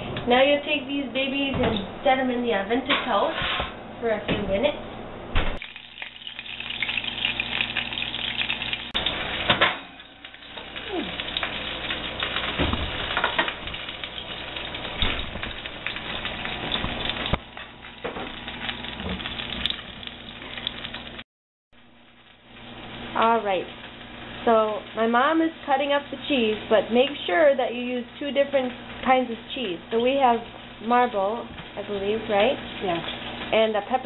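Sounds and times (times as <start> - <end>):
chicken sizzling in oil: 5.6 - 21.2, 22.0 - 34.0.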